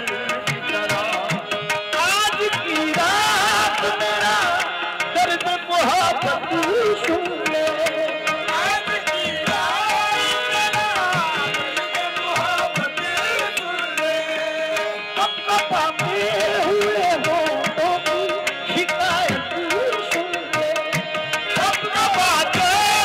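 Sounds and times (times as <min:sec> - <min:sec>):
harmonium: 0:00.0 - 0:23.0
man singing: 0:00.0 - 0:23.0
tabla rhythm: 0:00.0 - 0:23.0.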